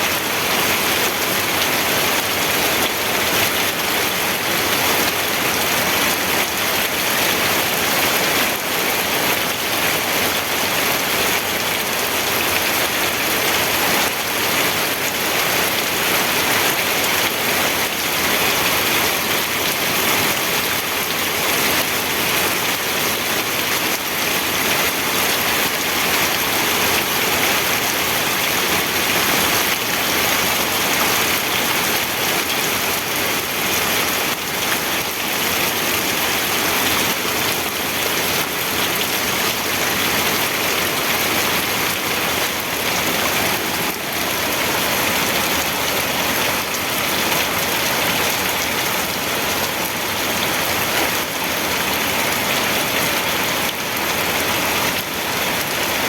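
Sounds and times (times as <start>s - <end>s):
heavy rain patter: 0.0s - 56.0s.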